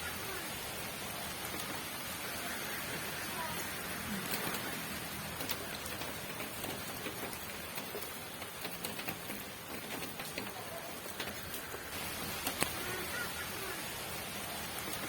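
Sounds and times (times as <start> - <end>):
raindrops tapping on a surface: 0.0 - 15.0
steady rain hiss: 0.0 - 15.0.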